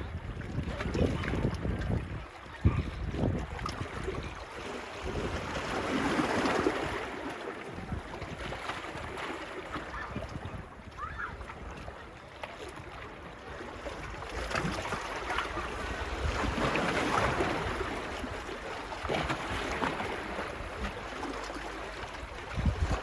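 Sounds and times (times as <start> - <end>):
wind on microphone: 0.0 - 12.1, 13.5 - 21.2, 22.0 - 23.0
small waves washing onto beach: 0.0 - 23.0.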